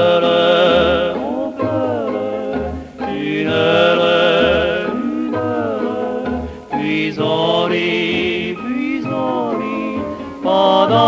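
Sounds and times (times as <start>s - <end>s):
light orchestral accompaniment: 0.0s - 11.0s
male duo singing: 0.0s - 11.0s.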